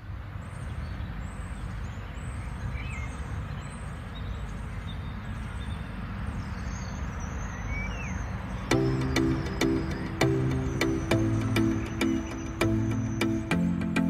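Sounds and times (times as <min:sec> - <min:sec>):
bird chirps: 0:00.4 - 0:14.0.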